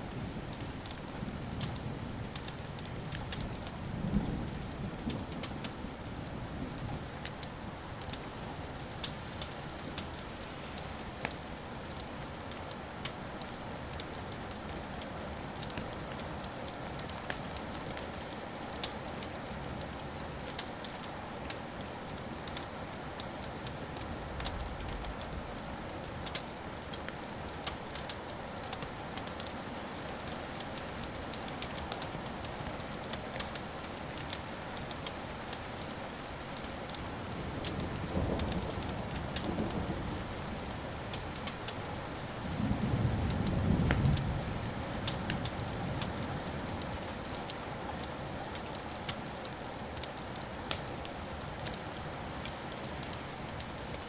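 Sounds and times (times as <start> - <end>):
wood fire crackling and popping: 1.6 - 3.7, 7.0 - 15.0, 15.6 - 44.3, 44.9 - 46.2, 46.8 - 54.0.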